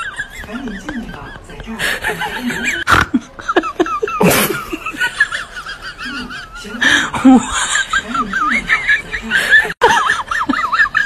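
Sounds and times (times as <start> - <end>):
laughter: 0.0 - 11.0.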